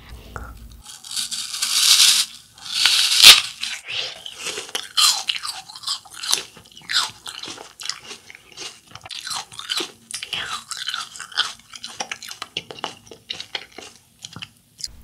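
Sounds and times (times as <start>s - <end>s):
biting into apple crunch: 0.8s - 15.0s
crunchy chewing: 0.8s - 15.0s.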